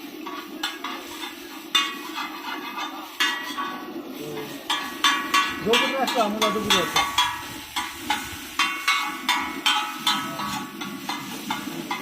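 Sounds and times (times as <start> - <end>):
metal spatula clanging on wok: 0.2 - 12.0.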